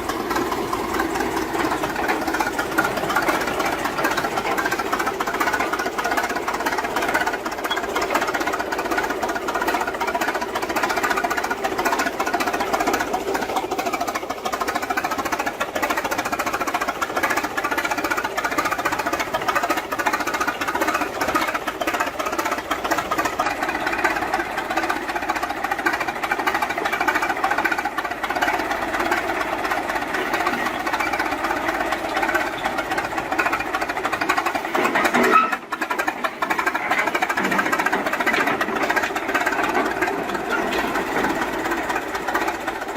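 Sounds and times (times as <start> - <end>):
machine mechanical clatter: 0.0 - 42.9.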